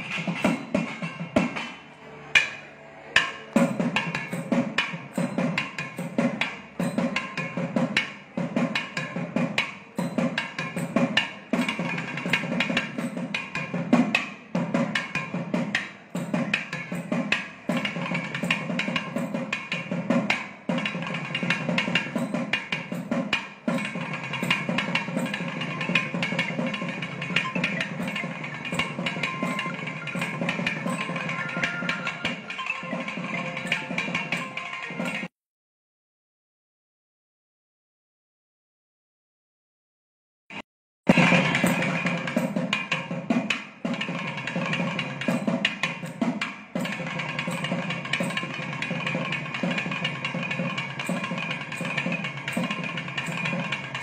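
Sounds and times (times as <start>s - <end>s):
fast drum strokes: 0.0s - 2.6s, 3.2s - 35.3s, 41.1s - 54.0s.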